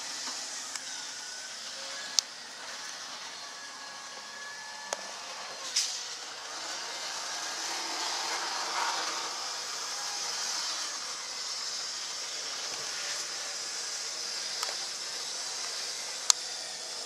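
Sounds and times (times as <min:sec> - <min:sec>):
model train whirring on track: 0:00.0 - 0:17.0.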